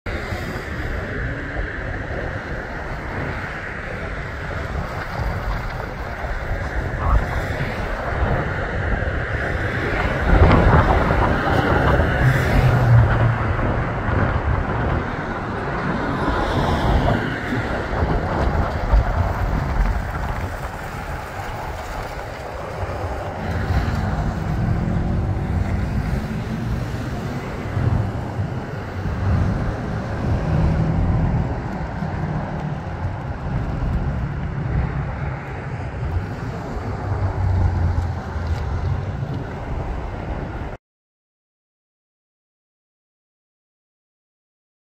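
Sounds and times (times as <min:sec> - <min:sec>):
wind buffeting microphone: 0:00.1 - 0:40.8.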